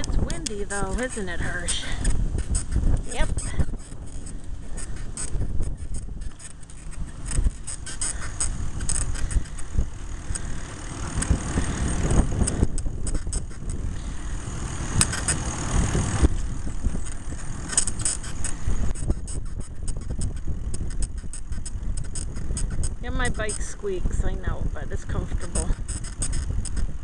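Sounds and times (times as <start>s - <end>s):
bicycle saddle squeaking: 0.0s - 27.0s
low rumble of wind and road: 0.0s - 27.0s.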